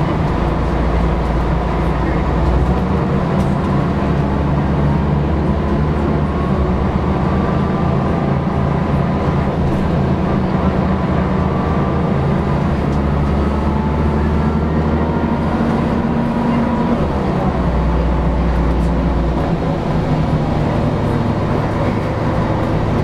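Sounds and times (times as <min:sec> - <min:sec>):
bus engine drone: 0:00.0 - 0:23.0
faint engine whine: 0:00.0 - 0:23.0.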